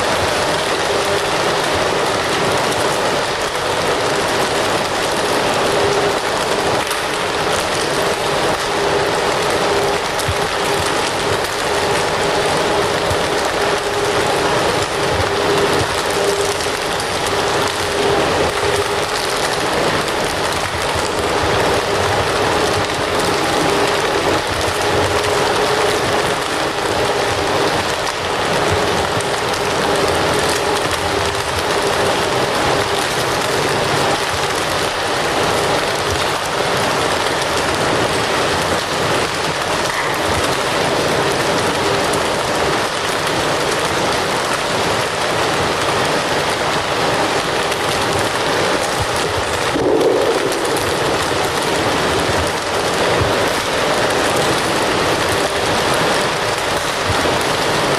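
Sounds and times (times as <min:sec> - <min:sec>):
fire crackling and hissing: 0:00.0 - 0:57.9.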